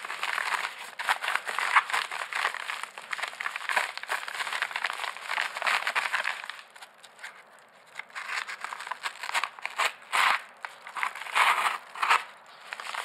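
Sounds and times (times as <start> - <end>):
paper mailer crinkling: 0.0 - 13.0.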